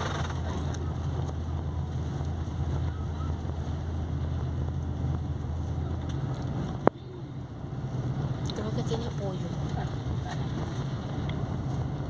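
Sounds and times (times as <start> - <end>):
coach engine and road rumble: 0.0 - 12.0.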